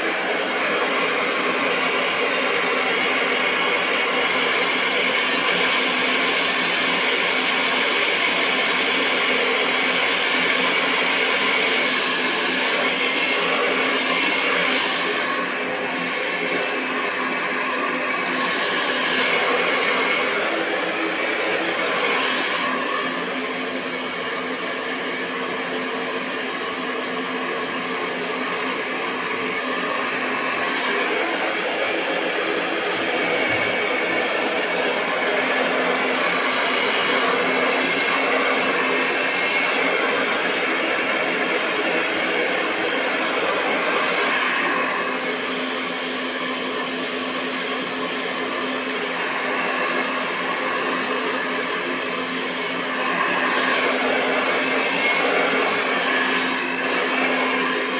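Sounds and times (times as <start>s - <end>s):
hair dryer running: 0.0s - 57.9s.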